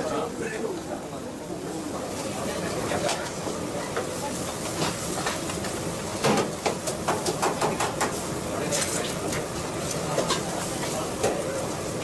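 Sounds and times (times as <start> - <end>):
food sizzling: 2.1 - 12.0.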